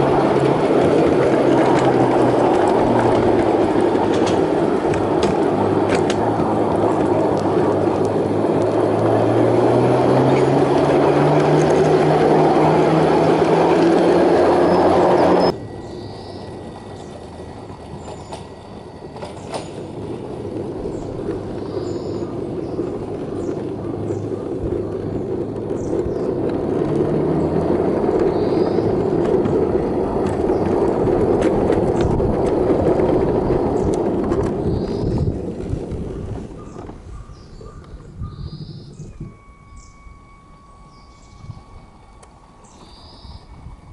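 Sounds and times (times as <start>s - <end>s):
miniature railbus motor running: 0.0s - 43.9s.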